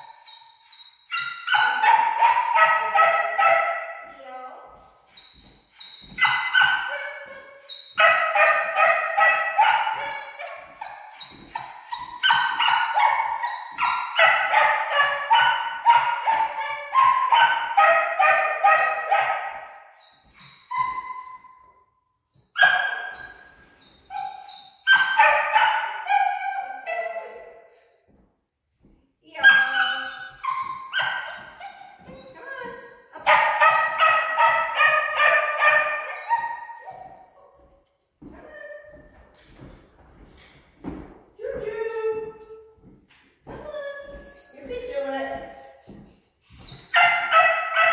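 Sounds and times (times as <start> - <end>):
dog barking and yelping: 0.0 - 4.1, 5.1 - 21.6, 22.5 - 27.7, 29.4 - 37.7, 43.5 - 47.9.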